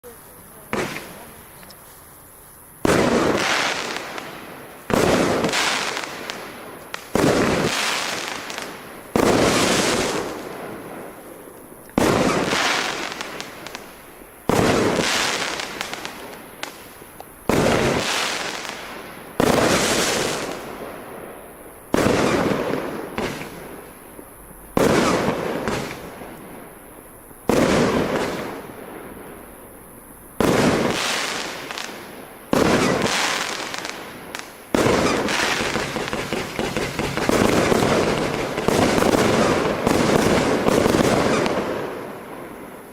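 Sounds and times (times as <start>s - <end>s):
firework bangs: 0.6s - 1.4s, 2.8s - 26.6s, 27.4s - 29.5s, 30.4s - 42.9s
small firework pops: 0.7s - 10.3s, 11.5s - 20.6s, 21.9s - 26.5s, 30.4s - 41.8s.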